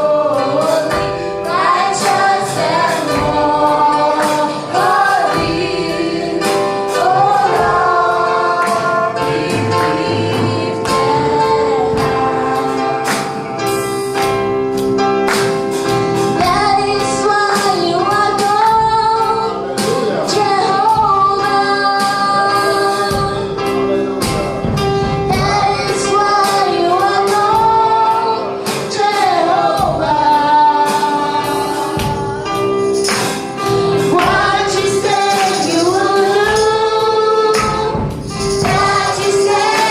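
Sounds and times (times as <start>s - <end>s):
woman singing worship song: 0.0s - 13.4s, 16.3s - 23.6s, 25.3s - 39.9s
percussion beat: 0.0s - 39.9s.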